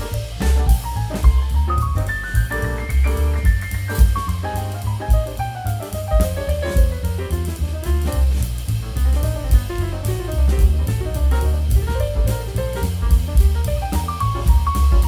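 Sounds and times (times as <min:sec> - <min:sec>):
drum kit with cymbals: 0:00.0 - 0:15.0
walking double bass: 0:00.0 - 0:15.0.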